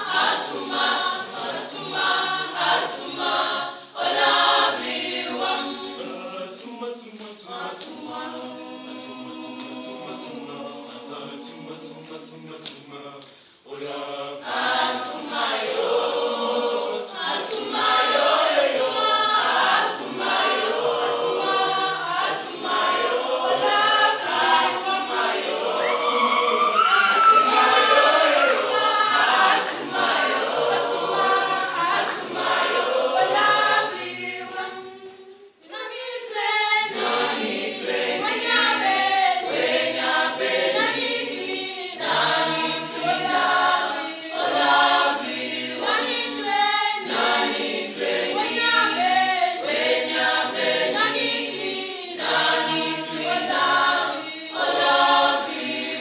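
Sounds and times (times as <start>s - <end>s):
mixed choir singing unaccompanied: 0.0s - 56.0s.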